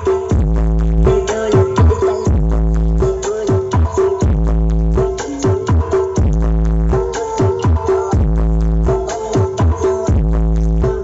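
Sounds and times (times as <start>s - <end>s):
electronic dance music: 0.0s - 11.0s
long deep bass notes: 0.0s - 11.0s
punchy kick drums: 0.0s - 11.0s.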